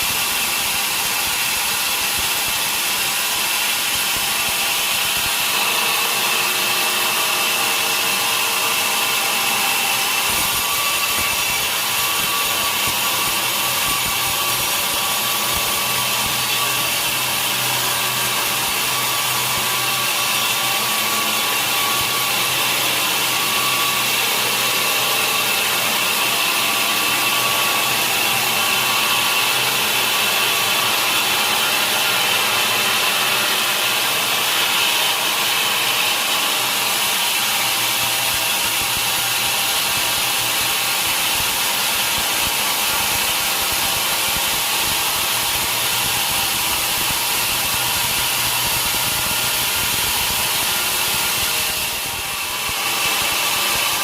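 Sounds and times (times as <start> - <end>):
saw cutting through log: 0.0 - 54.0.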